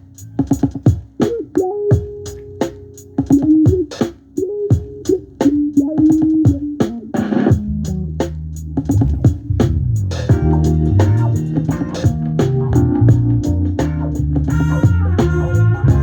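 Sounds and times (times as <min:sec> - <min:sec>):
programmed drum beat: 0:00.0 - 0:16.0.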